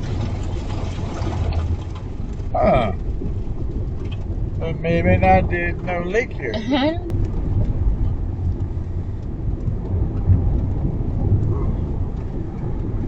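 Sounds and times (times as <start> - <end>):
road noise rumble inside car: 0.0 - 13.0
faint tyre ticks: 1.5 - 13.0.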